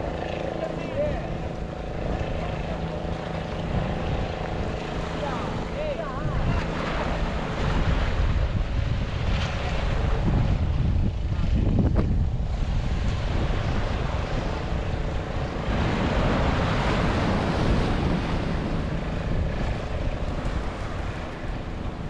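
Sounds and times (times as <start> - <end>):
surf rushing: 0.0 - 22.0
wind rumbling on microphone: 0.0 - 22.0.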